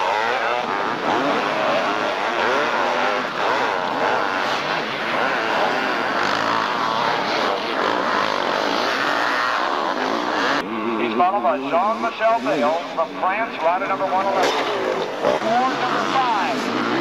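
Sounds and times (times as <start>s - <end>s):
motocross bikes racing past: 0.0s - 17.0s.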